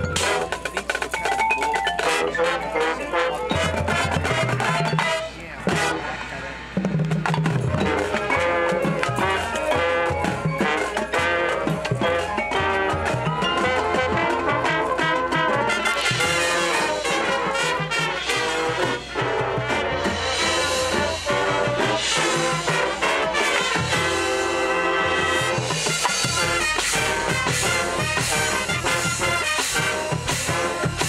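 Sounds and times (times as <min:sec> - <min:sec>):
brass winds: 0:00.0 - 0:31.0
drums: 0:00.0 - 0:31.0
keyboard percussion: 0:00.0 - 0:31.0
marching band playing: 0:00.0 - 0:31.0.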